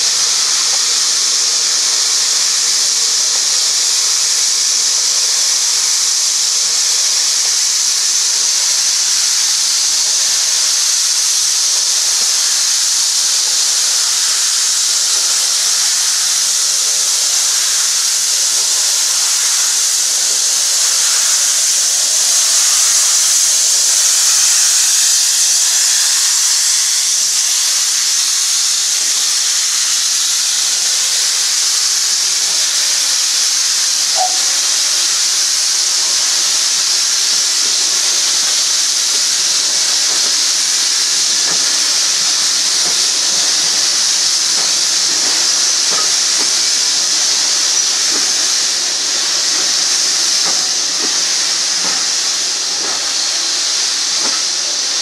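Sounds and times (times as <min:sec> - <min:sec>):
hiss of escaping steam: 0:00.0 - 0:55.0.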